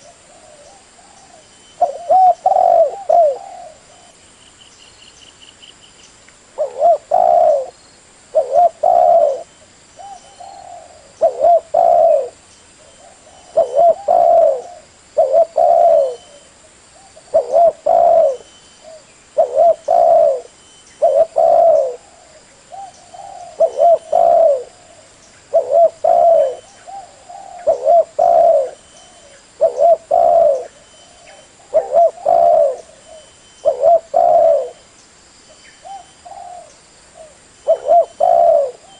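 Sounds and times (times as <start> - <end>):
dove cooing: 0.0 - 4.2, 6.6 - 34.8, 35.8 - 38.9.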